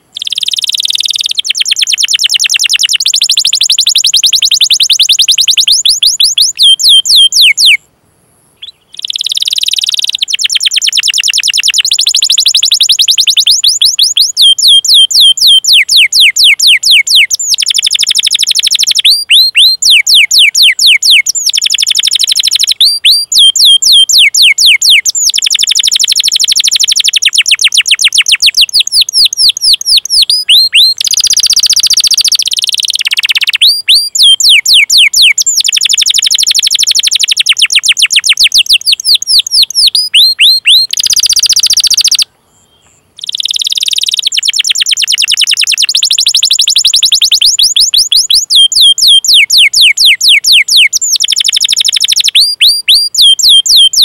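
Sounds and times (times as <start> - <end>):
canary singing: 0.0 - 7.8, 8.6 - 54.0.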